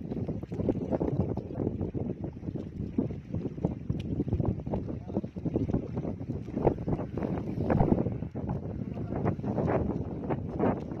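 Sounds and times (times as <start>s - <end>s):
small waves lapping and splashing: 0.0s - 11.0s
wind buffeting microphone: 0.0s - 11.0s.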